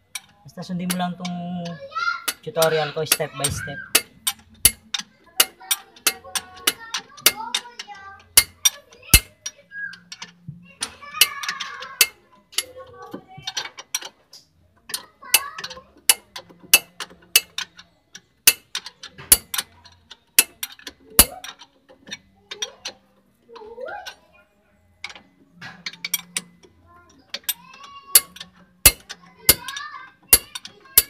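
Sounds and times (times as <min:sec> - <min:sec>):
hand tools clicking and clinking: 0:00.0 - 0:31.0.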